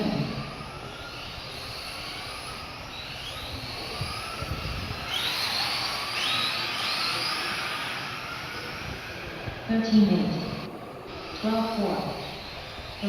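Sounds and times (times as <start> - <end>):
toy truck electric motors whining: 0.0 - 13.0.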